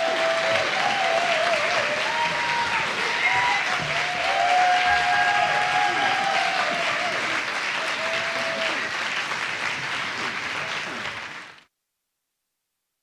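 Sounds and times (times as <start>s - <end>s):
audience calls: 0.0s - 11.6s
audience applauding: 0.0s - 11.7s.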